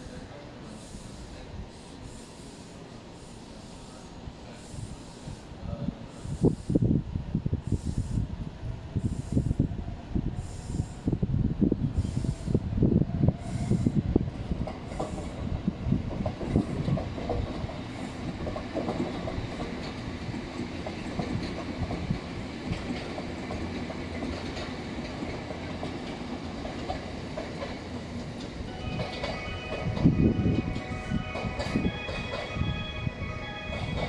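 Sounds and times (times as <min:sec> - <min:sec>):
train wheels rumbling and clacking: 0:00.0 - 0:34.0.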